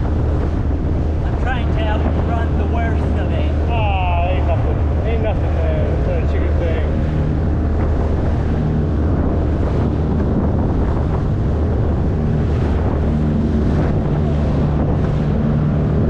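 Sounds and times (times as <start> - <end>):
outboard motor drone: 0.0 - 16.0
water rushing along hull: 0.0 - 16.0
wind buffeting microphone: 0.0 - 16.0.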